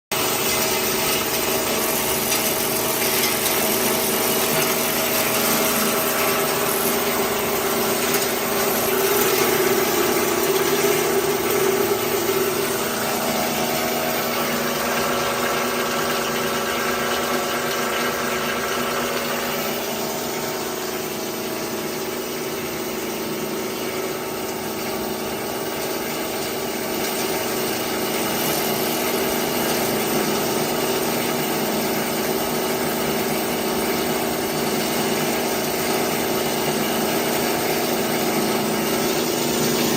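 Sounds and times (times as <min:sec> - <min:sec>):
crusher machine running: 0:00.1 - 0:39.9.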